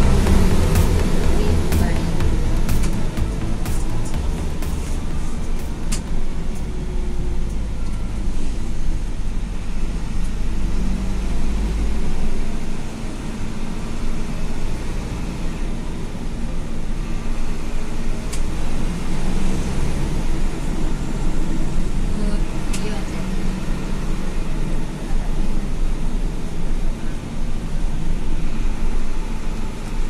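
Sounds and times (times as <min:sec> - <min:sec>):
bus engine drone: 0:00.0 - 0:30.0
road noise: 0:00.0 - 0:30.0.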